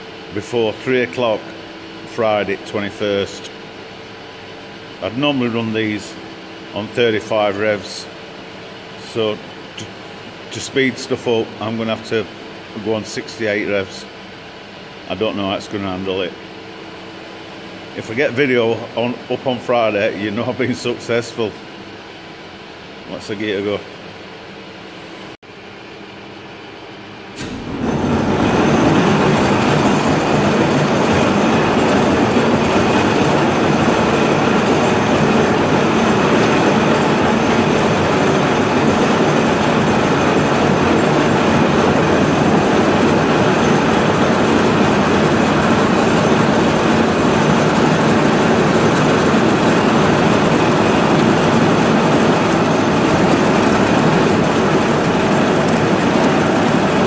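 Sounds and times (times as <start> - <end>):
large lathe running: 0.0 - 24.6, 27.3 - 57.0.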